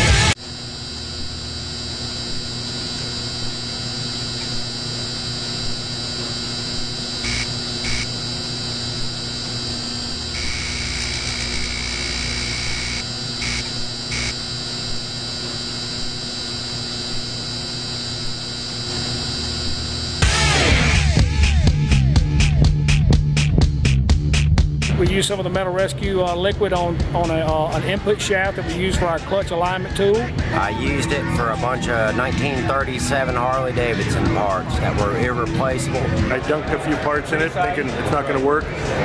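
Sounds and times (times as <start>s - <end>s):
neon sign buzzing: 0.0s - 39.0s.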